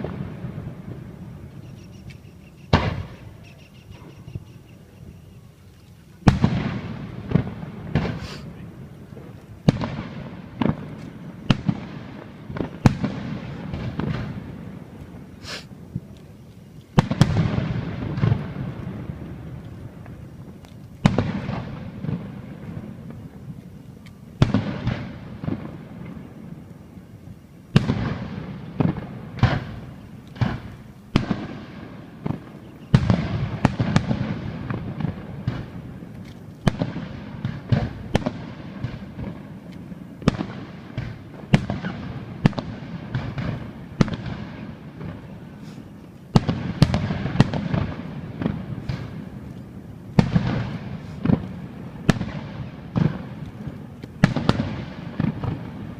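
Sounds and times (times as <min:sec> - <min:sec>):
fireworks bangs with crackling: 0:00.0 - 0:04.2, 0:06.1 - 0:55.9.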